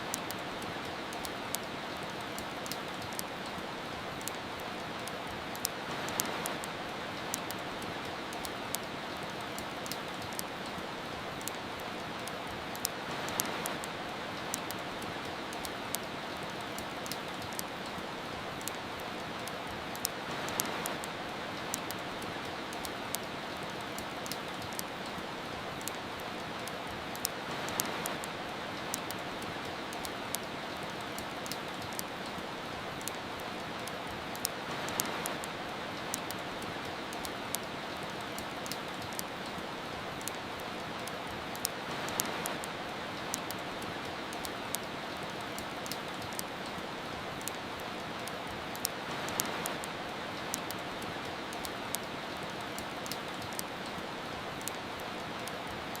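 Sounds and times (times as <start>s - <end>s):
steady rain hiss: 0.0s - 56.0s
wood fire crackling and popping: 0.0s - 56.0s.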